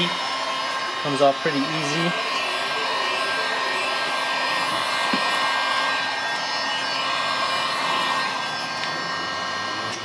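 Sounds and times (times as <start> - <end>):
heat gun fan whine and rushing air: 0.0 - 10.0.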